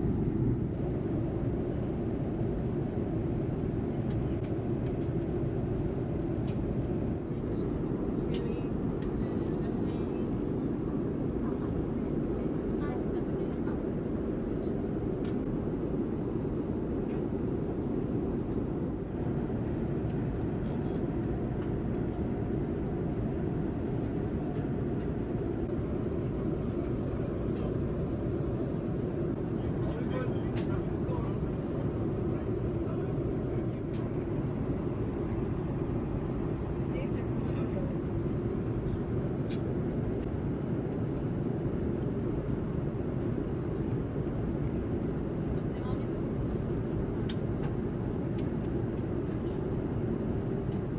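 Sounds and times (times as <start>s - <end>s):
airliner cabin drone: 0.0s - 50.9s.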